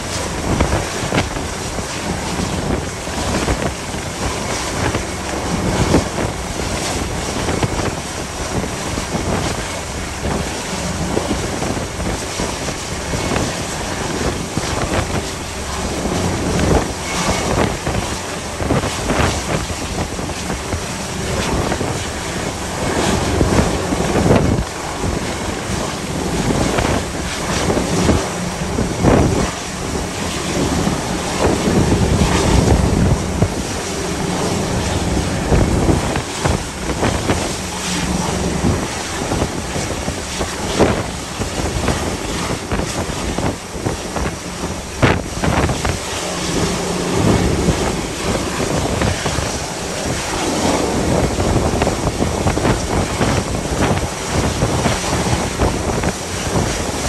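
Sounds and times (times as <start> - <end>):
rough sea rushing: 0.0 - 57.0
wind buffeting microphone: 0.0 - 57.0.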